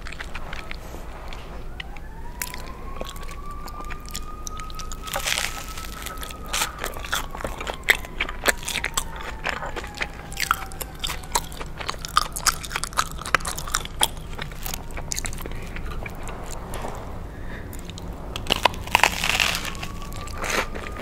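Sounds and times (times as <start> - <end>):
crunchy sandwich chewing: 0.0 - 21.0.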